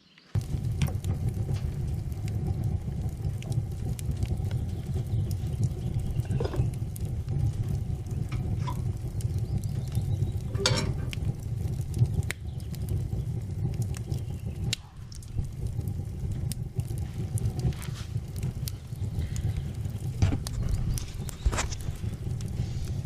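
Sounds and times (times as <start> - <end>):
wood fire crackling: 0.1 - 23.0
low rumble of stove: 0.3 - 23.0.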